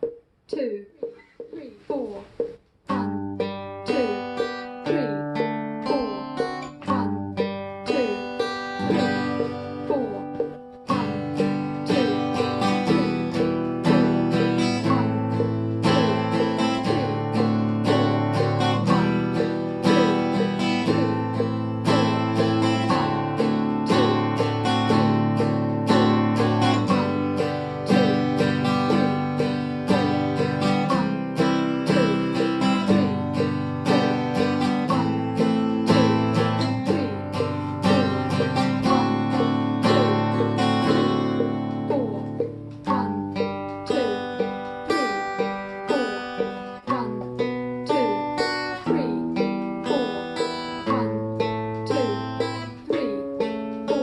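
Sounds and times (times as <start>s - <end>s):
acoustic guitar strumming: 1.0s - 54.0s.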